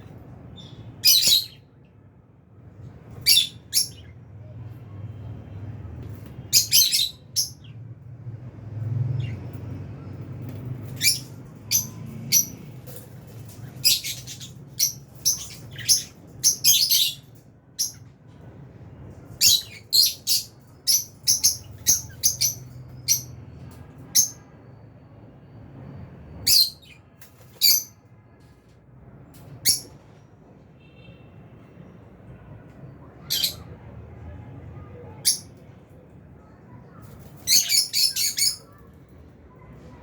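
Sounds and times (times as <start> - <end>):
birds chirping high-pitched: 0.0 - 1.9, 2.8 - 24.8, 26.3 - 28.1, 29.3 - 30.2, 32.6 - 33.9, 34.8 - 40.0.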